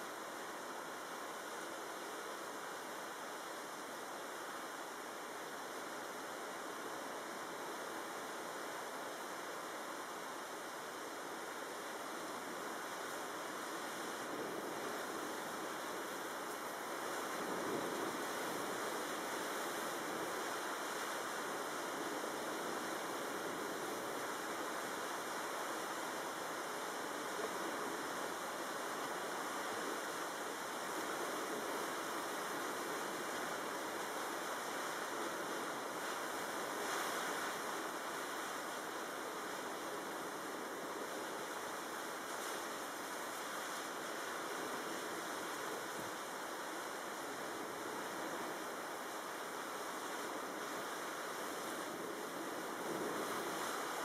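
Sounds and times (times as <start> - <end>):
rushing storm wind and water: 0.0 - 54.0.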